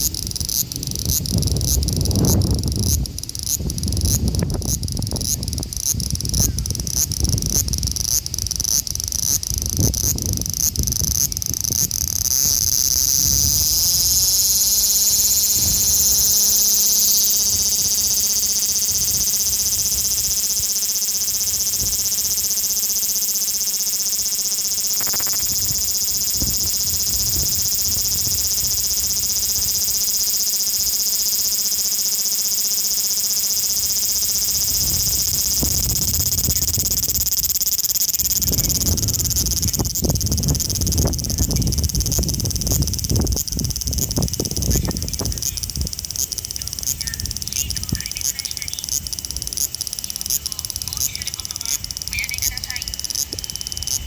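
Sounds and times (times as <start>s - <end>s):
cicada calling: 0.0s - 54.0s.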